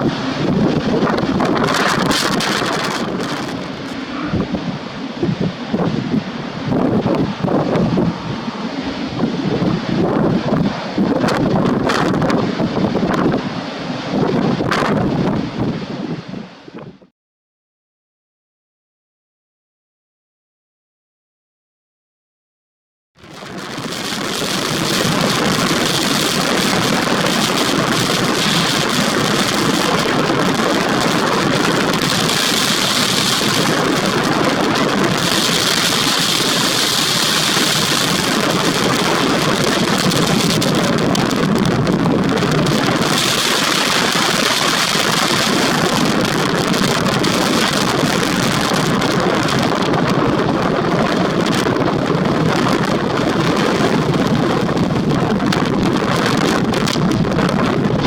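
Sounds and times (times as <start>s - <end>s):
waves breaking: 0.0s - 16.7s, 23.3s - 58.0s
strong wind: 0.0s - 17.1s, 23.2s - 58.0s.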